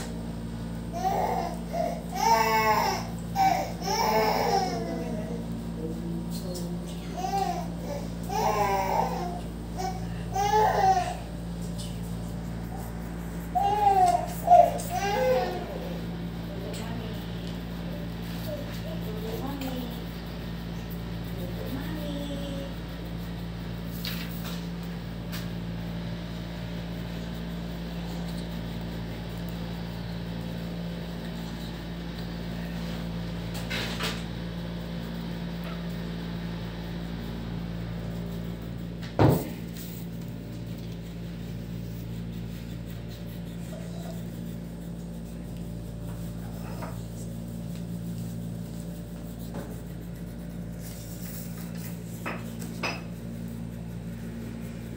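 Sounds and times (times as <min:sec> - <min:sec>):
low electrical hum: 0:00.0 - 0:54.9.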